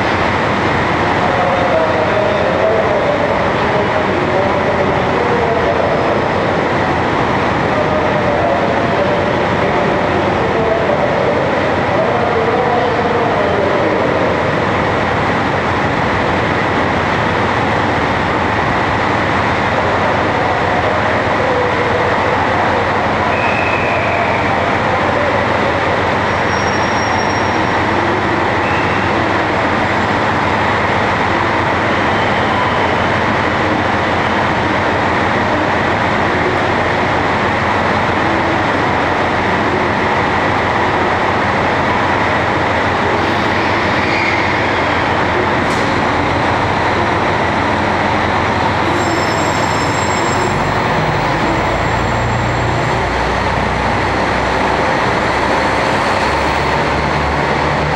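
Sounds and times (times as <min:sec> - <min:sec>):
train rumble and hiss: 0:00.0 - 0:57.9.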